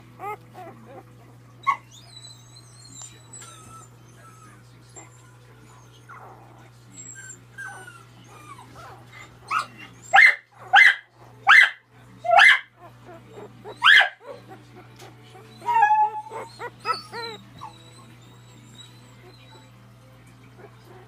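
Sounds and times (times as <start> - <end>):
puppy whimpering: 0.0 - 11.0, 12.2 - 19.9, 20.5 - 21.0
puppies squealing: 0.0 - 21.0.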